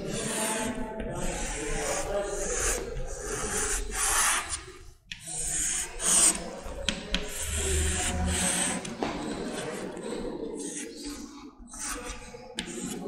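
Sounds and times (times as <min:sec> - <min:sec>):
chalk scraping on blackboard: 0:00.0 - 0:13.0.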